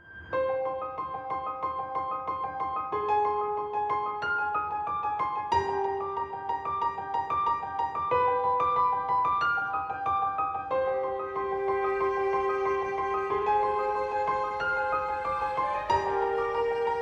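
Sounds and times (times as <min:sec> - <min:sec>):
piano playing repeated notes: 0:00.0 - 0:17.0.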